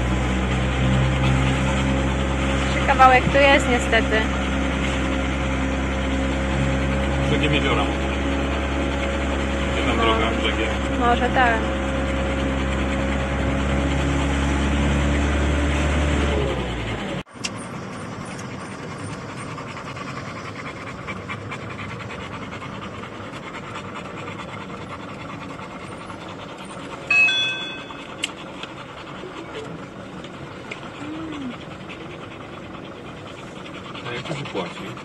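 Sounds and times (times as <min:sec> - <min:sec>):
camper van engine hum: 0:00.0 - 0:35.0.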